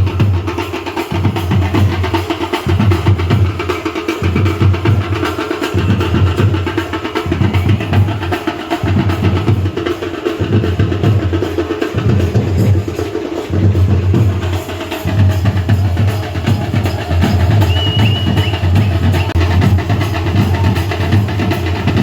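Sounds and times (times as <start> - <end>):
fast loud drumming: 0.0 - 22.0.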